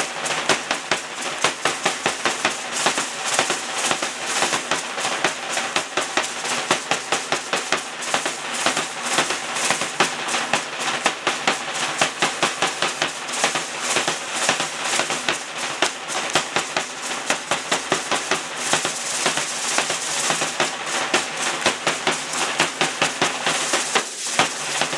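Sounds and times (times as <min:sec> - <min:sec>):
drumming: 0:00.0 - 0:24.9.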